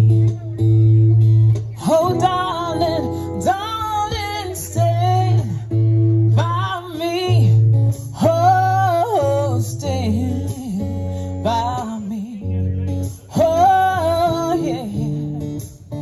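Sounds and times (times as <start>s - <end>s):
acoustic guitar: 0.0s - 16.0s
woman singing into a microphone: 0.0s - 16.0s.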